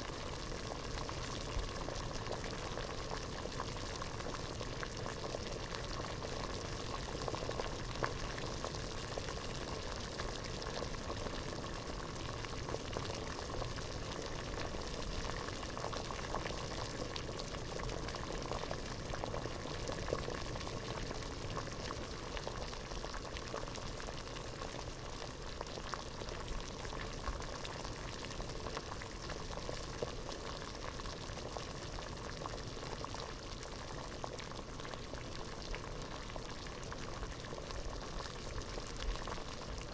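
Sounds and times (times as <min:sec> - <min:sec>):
water boiling in a pot: 0:00.0 - 0:39.9.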